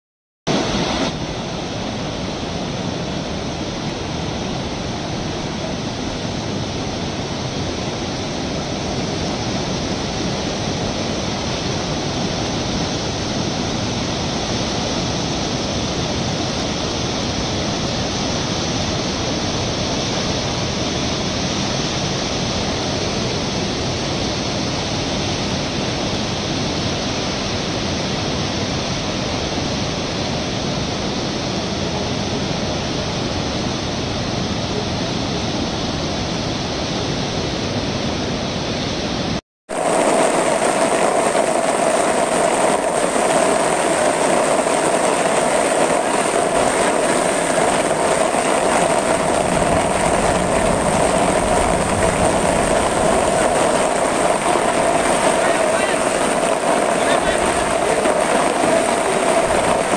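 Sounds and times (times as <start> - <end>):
floodwater rushing: 0.5 - 59.9.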